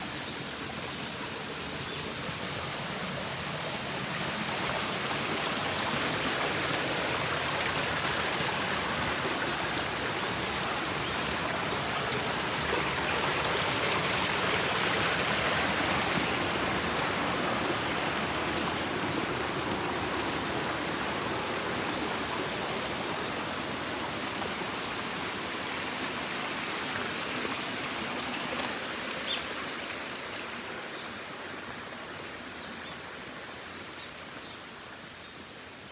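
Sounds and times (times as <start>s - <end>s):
stream rushing over rocks: 0.1s - 35.0s.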